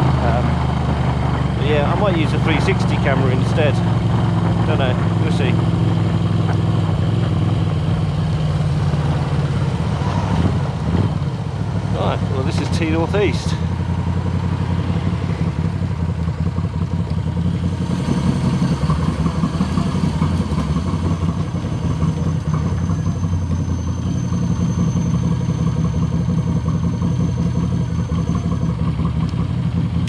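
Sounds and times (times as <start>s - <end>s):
motorcycle engine running at low revs: 0.0s - 30.0s.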